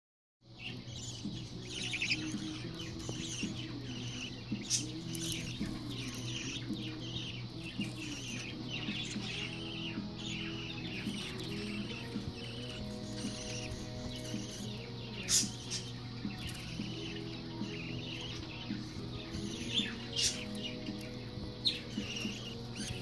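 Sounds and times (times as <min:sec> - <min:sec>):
young budgerigars chirping: 0:00.5 - 0:23.0.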